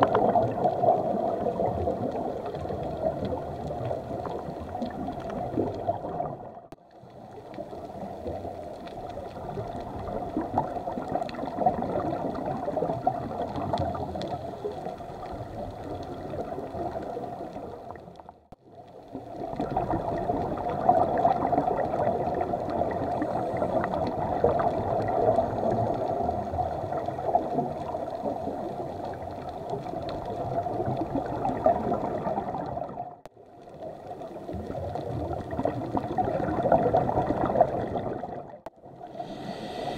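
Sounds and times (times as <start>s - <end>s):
underwater bubbling and gurgling: 0.0s - 39.9s.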